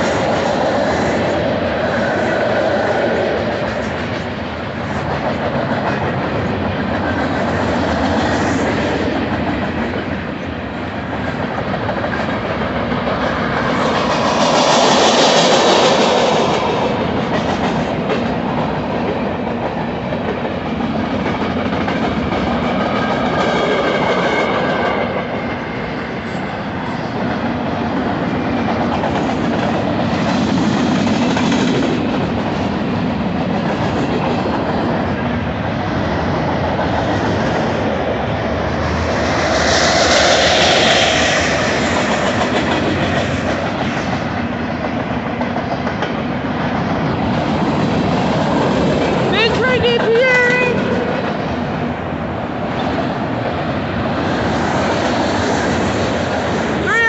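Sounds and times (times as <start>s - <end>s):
freight train wheels clacking: 0.0s - 57.0s.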